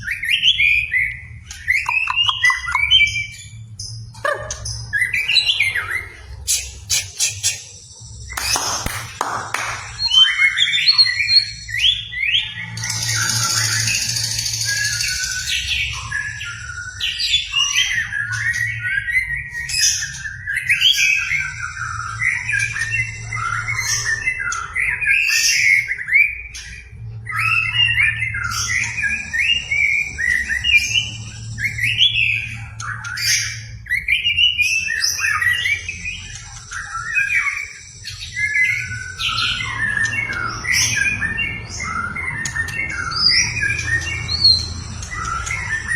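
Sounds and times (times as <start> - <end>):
bird singing whistles and chatter: 0.0 - 45.9.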